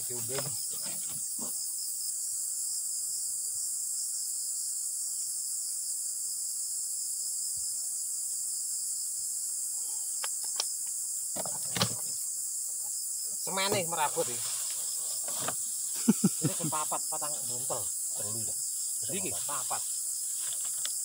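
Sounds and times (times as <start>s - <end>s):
insect chorus shrilling: 0.0s - 21.0s.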